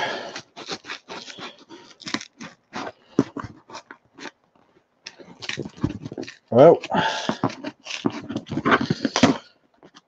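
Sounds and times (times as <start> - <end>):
knife cutting cardboard box: 0.0 - 4.3, 5.4 - 10.0.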